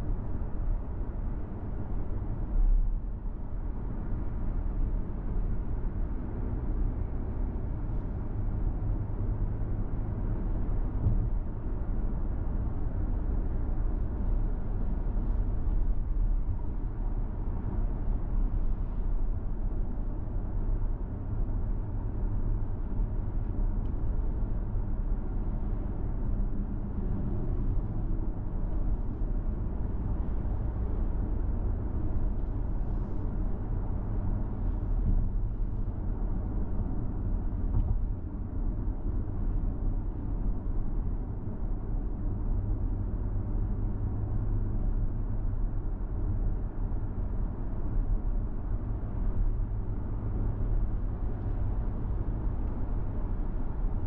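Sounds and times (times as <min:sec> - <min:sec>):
car driving on asphalt: 0:00.0 - 0:54.0.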